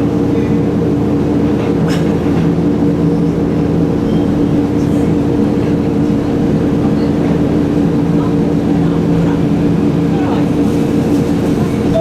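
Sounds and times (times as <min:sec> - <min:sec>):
electric railcar humming: 0:00.0 - 0:12.0.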